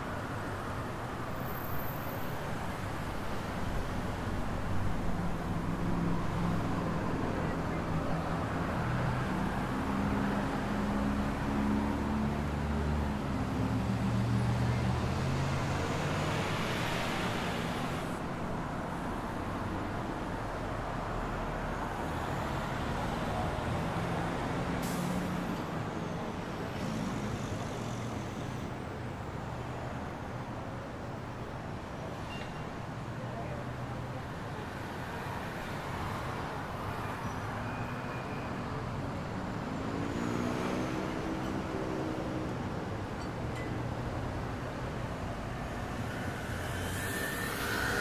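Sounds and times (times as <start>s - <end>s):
cars passing on road: 0.0s - 48.0s.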